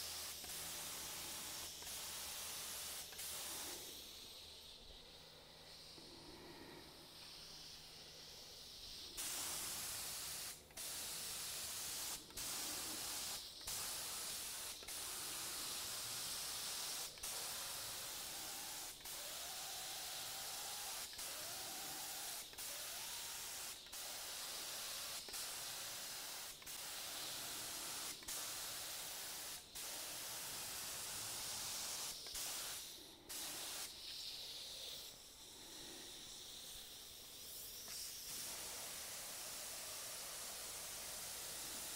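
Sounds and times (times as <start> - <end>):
paint spray gun hissing: 0.0 - 41.9.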